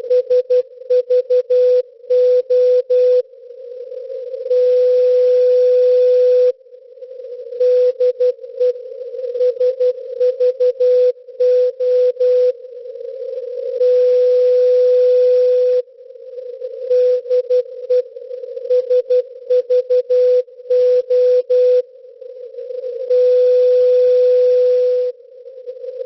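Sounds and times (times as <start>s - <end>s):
filtered static hiss: 0.0s - 26.0s
long steady tone: 0.0s - 26.0s.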